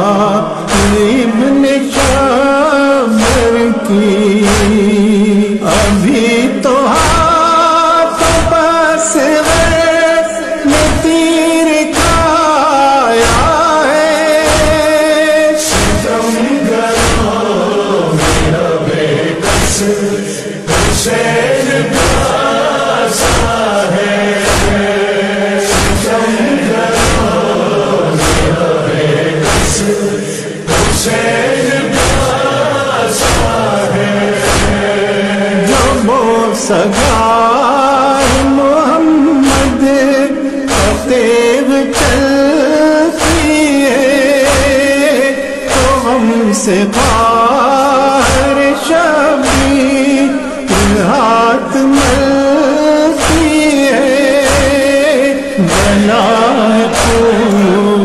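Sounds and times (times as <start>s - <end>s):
men chanting a lament: 0.0s - 58.0s
chest-beating slaps: 0.1s - 6.2s, 6.9s - 7.4s, 8.1s - 36.2s, 36.9s - 37.3s, 38.0s - 46.3s, 46.9s - 51.2s, 51.8s - 58.0s.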